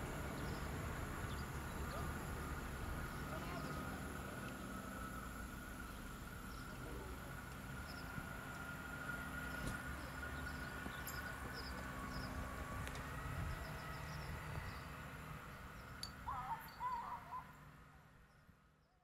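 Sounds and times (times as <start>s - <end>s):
small birds chirping: 0.0s - 5.0s, 5.7s - 8.7s, 9.4s - 17.6s.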